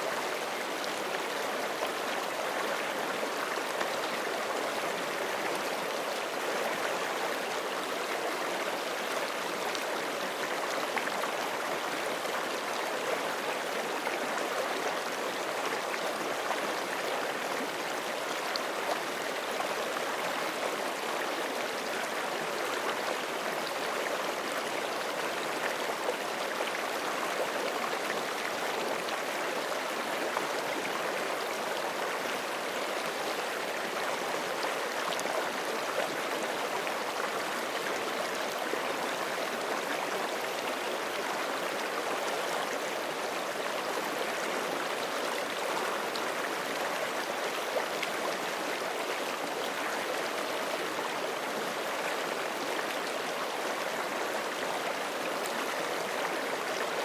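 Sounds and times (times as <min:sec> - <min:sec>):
creek flowing over rocks: 0:00.0 - 0:57.0.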